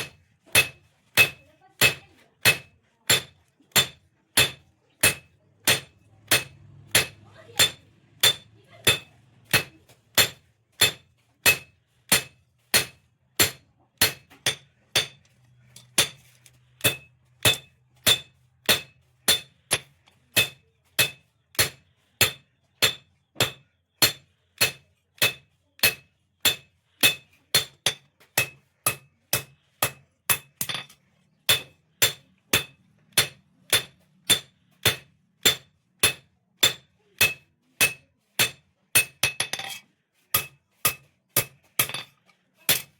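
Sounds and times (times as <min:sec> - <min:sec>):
hammer striking metal on anvil: 0:00.0 - 0:16.2, 0:16.8 - 0:42.1, 0:42.7 - 0:42.9.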